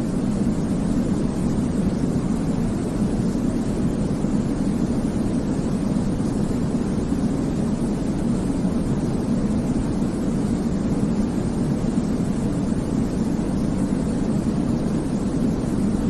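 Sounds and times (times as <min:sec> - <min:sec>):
low rumbling white noise: 0:00.0 - 0:16.0.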